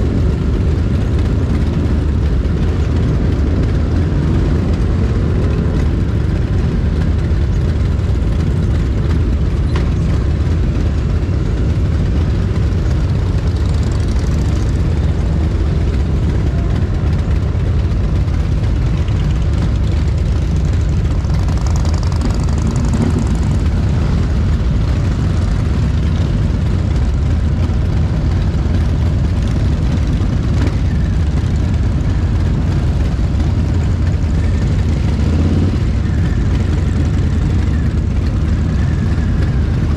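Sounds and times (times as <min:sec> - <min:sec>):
motorcycles riding past: 0:00.0 - 0:39.9.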